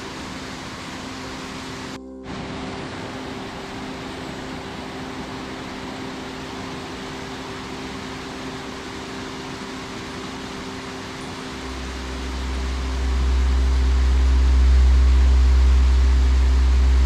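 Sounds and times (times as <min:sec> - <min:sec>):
waterfall rushing: 0:00.0 - 0:16.8
low hum tones: 0:00.0 - 0:17.0.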